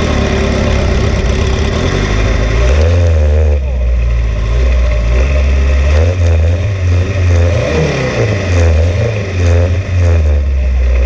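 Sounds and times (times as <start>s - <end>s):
dune buggy engine pulling hard: 0.0s - 11.0s.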